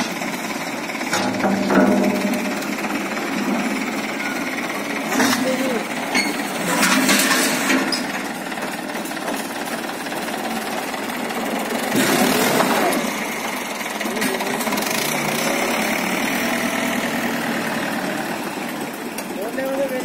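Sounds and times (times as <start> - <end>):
diesel engine clattering: 0.0 - 20.0.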